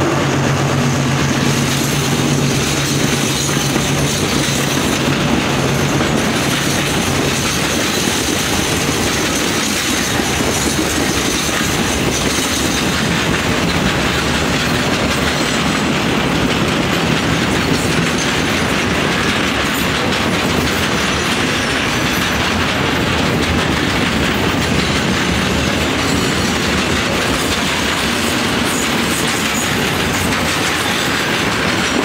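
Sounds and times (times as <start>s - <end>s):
train wheels running over rails: 0.0s - 32.0s.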